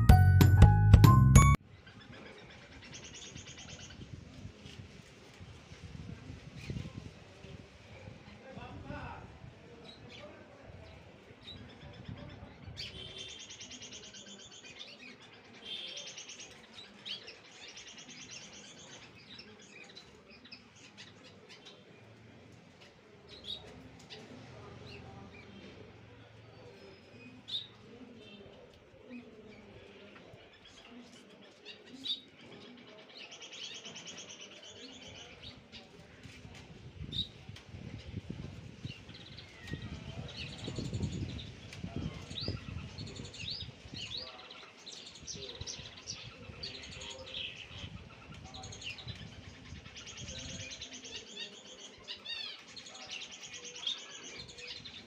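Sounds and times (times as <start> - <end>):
cage birds chirping: 0.0 - 4.4, 9.8 - 55.0.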